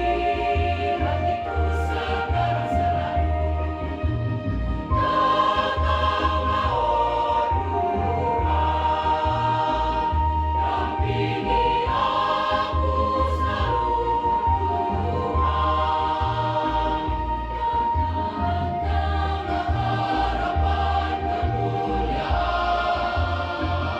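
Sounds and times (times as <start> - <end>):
choir singing held chords: 0.0 - 23.9
low bass line: 0.0 - 23.9.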